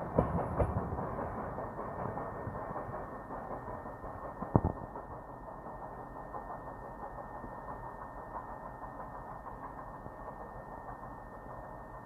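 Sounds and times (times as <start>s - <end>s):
distant steam train rumble: 0.0s - 12.0s.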